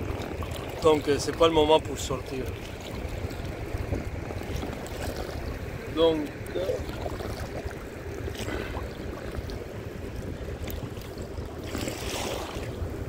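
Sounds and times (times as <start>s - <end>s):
waves lapping against kayak: 0.0s - 13.0s
wind rumbling on microphone: 0.0s - 13.0s.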